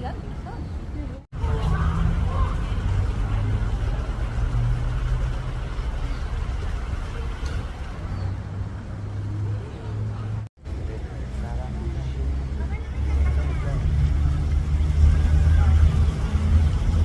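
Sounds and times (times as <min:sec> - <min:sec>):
road noise: 0:00.0 - 0:17.0
vehicle engine drone: 0:01.4 - 0:17.0.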